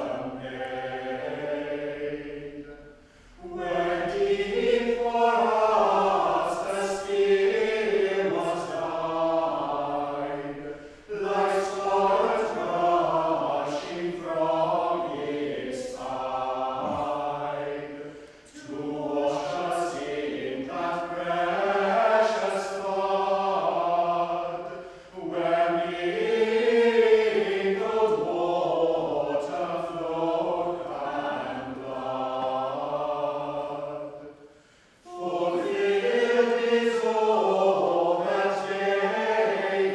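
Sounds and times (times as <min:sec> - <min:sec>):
group of voices chanting in unison: 0:00.0 - 0:39.9.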